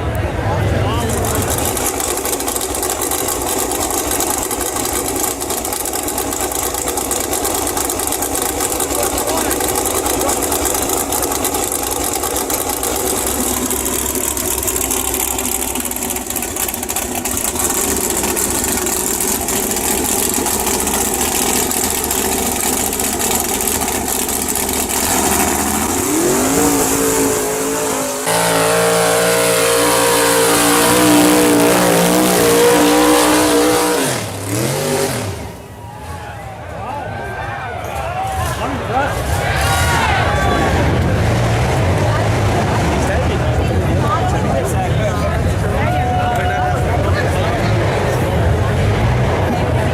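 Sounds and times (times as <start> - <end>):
off-road vehicle engine revving: 0.0 - 36.3, 38.3 - 49.9.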